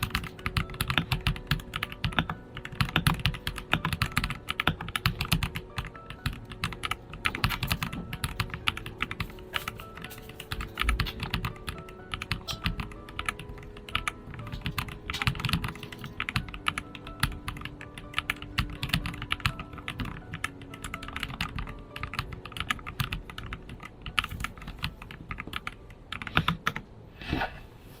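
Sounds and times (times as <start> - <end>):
mechanical keyboard typing clacks: 0.0 - 26.8.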